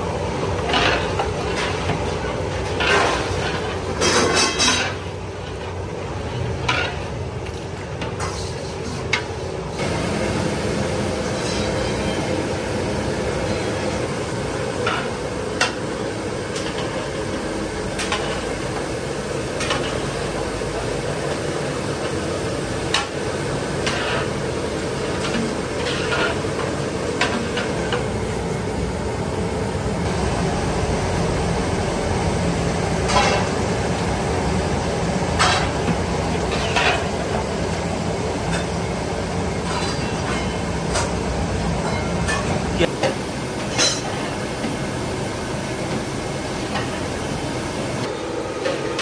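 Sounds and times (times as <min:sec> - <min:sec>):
food frying in pot: 0:00.0 - 0:49.0.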